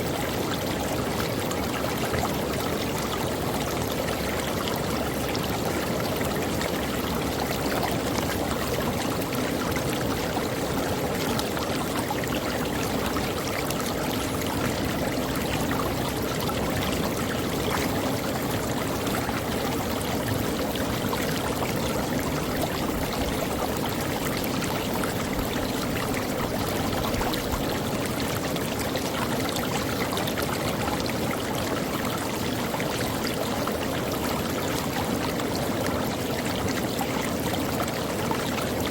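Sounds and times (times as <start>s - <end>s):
creek water running over rocks: 0.0s - 38.9s.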